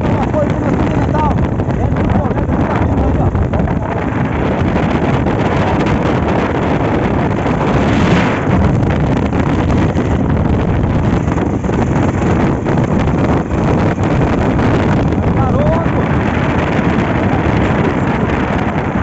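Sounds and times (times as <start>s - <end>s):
vehicle running: 0.0s - 19.0s
wind rumble on microphone: 0.0s - 19.0s.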